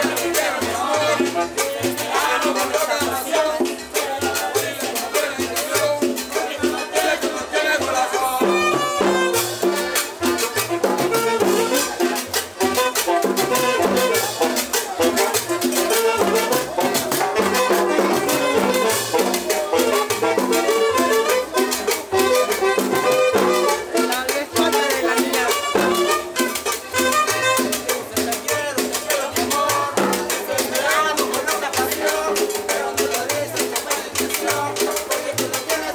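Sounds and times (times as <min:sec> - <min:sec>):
congas: 0:00.0 - 0:35.9
saxophones: 0:00.0 - 0:35.9.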